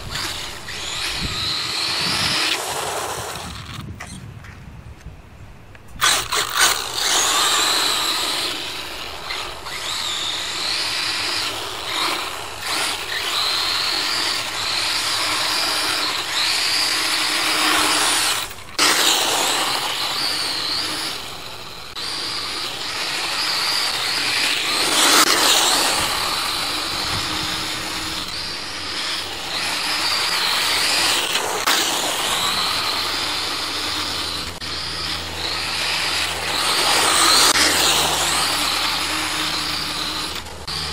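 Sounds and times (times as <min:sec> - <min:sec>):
electric motor whining: 0:00.0 - 0:04.2, 0:06.0 - 0:40.9.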